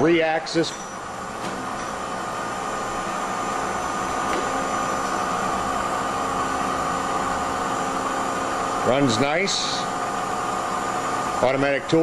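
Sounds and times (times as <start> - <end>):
machining center humming and whining: 0.0 - 12.0.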